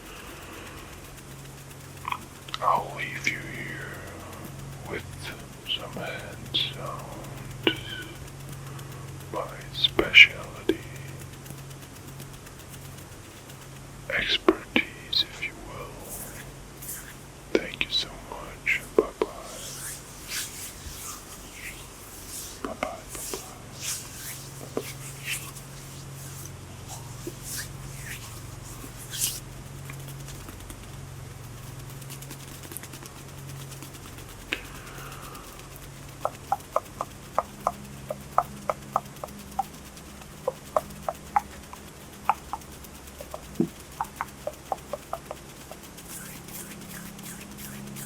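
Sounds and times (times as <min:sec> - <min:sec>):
hands brushing and rubbing: 0:00.0 - 0:30.6, 0:32.1 - 0:48.0
low steady hum: 0:00.0 - 0:48.0.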